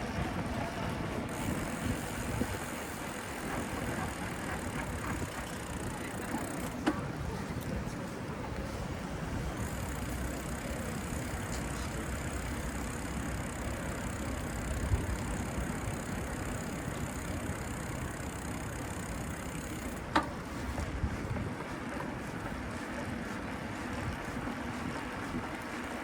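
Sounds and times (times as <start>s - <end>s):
road rumble: 0.0s - 26.0s
street traffic: 0.0s - 26.0s.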